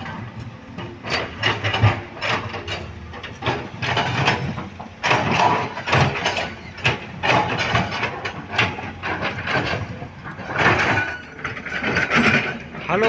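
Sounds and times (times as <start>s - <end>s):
machinery clanking on rock: 0.0s - 13.0s.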